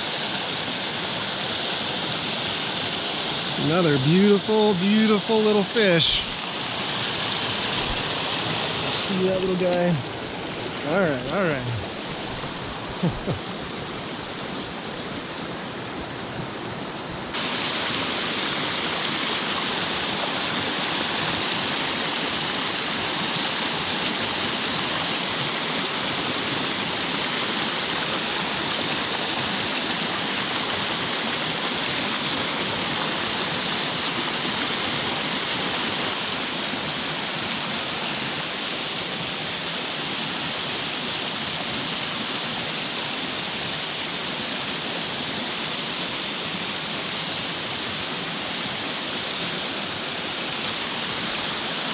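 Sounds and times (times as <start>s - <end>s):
stream rushing over stones: 0.0s - 51.9s.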